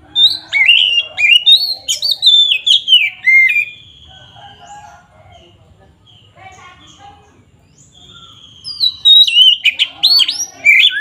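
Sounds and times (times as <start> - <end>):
songbird whistled song: 0.0 - 5.0, 6.0 - 11.0.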